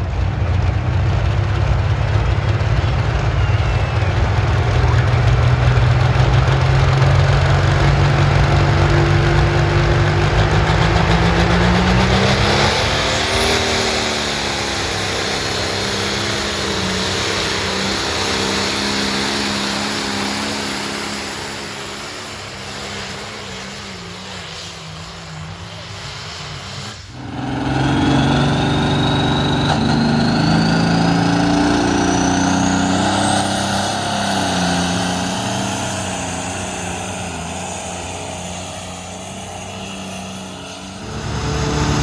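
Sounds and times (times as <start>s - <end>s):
engine running hard under load: 0.0s - 42.0s.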